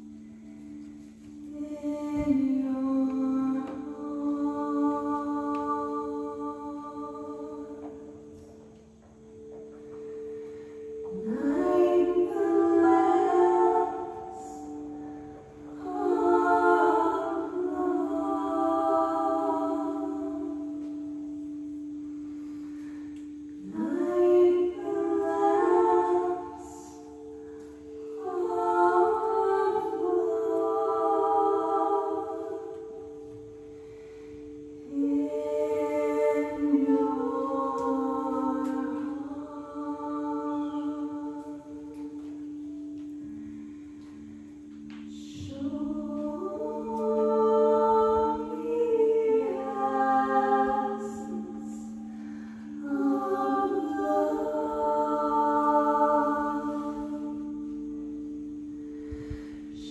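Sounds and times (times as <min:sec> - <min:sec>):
singing bowls ringing: 0:00.0 - 0:59.9
wordless singing voices: 0:00.0 - 0:59.9.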